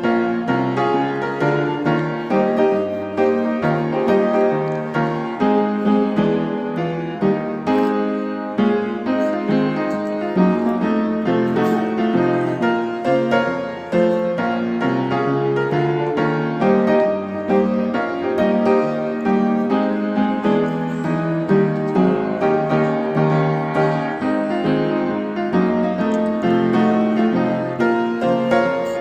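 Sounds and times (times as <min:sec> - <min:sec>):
background piano music: 0:00.0 - 0:29.0.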